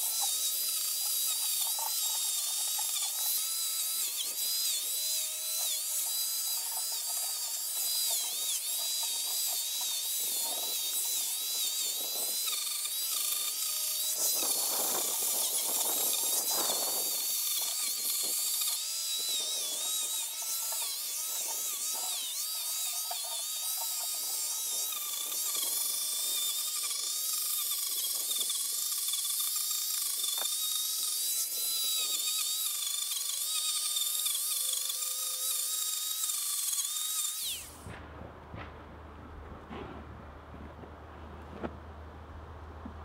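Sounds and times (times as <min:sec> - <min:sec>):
angle grinder whine: 0:00.0 - 0:41.8
grinding of wood: 0:00.0 - 0:41.8.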